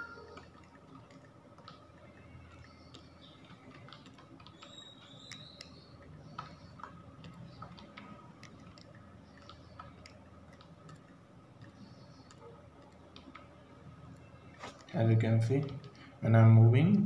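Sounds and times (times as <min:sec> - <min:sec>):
computer mouse clicks: 0:00.0 - 0:14.9.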